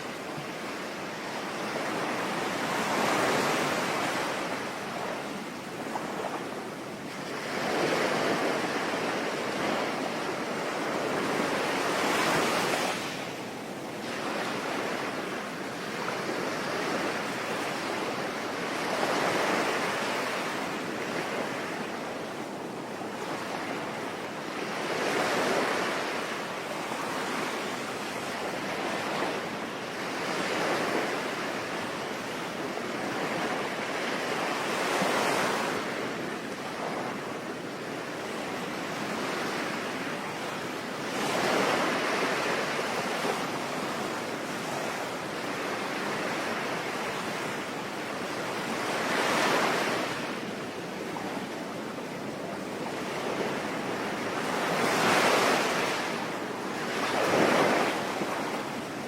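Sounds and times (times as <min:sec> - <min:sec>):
sea waves breaking: 0:00.0 - 0:59.0.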